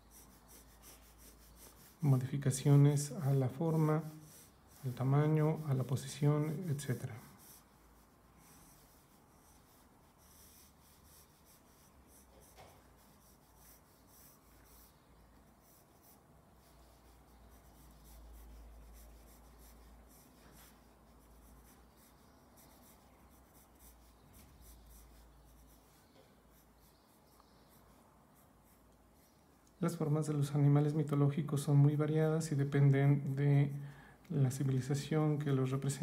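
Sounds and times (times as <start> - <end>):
pencil scratching on paper: 0.0 - 29.4.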